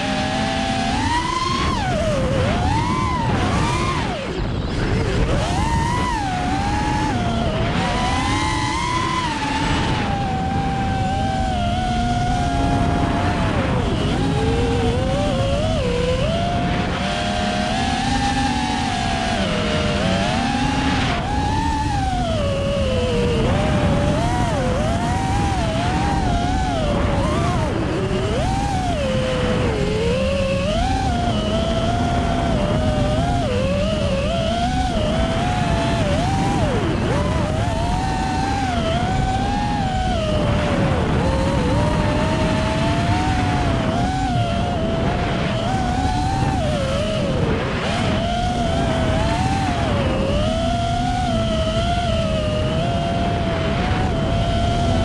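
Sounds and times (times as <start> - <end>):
drone motors whining: 0.0 - 55.0
wind rumble: 0.0 - 55.0.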